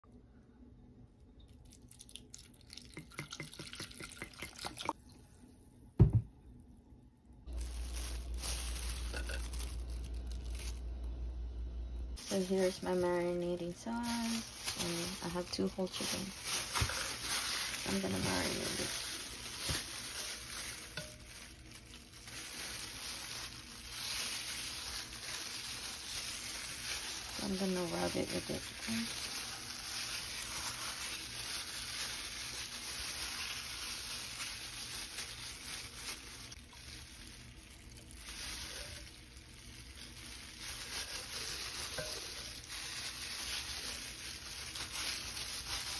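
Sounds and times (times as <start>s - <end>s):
steady hiss with low hum: 0.0s - 45.9s
plastic gloves rubbing raw chicken: 7.4s - 10.9s, 12.2s - 45.9s.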